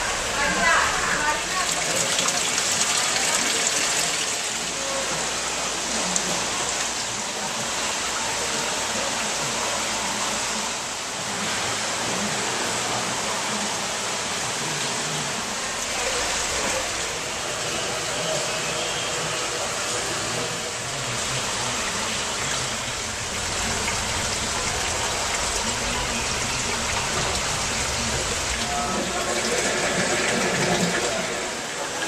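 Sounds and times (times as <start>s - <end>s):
faint voices: 0.0s - 32.0s
water rushing through tanks: 0.0s - 32.0s.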